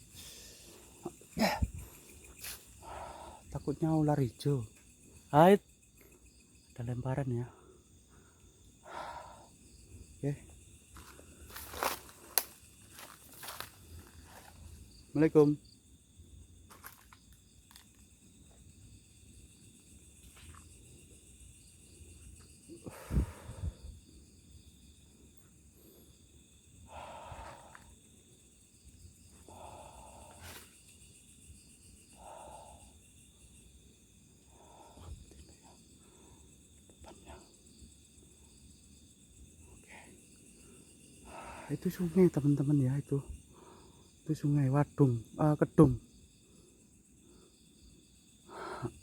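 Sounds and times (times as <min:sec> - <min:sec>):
crickets and insects chirring: 0:00.0 - 0:49.0.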